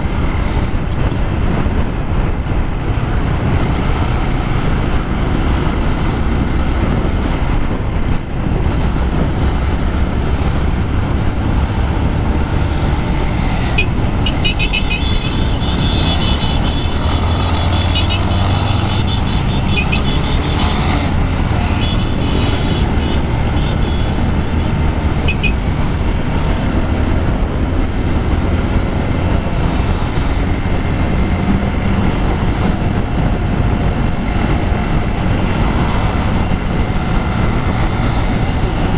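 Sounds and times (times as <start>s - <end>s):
traffic: 0.0s - 38.9s
wind noise on microphone: 0.0s - 38.9s
motorcycle engine running: 5.8s - 38.9s.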